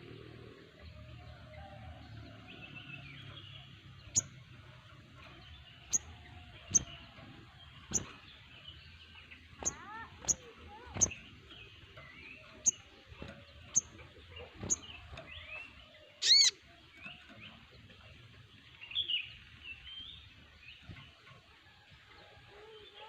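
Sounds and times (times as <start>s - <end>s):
sunbirds calling: 0.0s - 21.6s.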